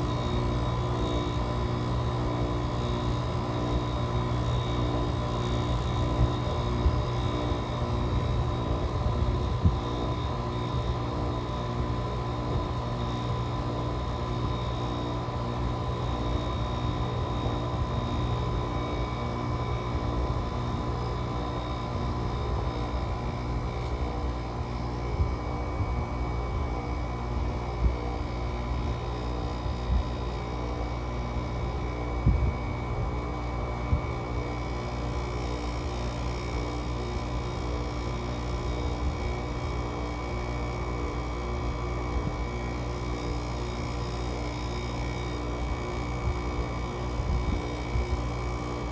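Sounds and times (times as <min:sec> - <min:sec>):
window air conditioner droning: 0:00.0 - 0:48.9.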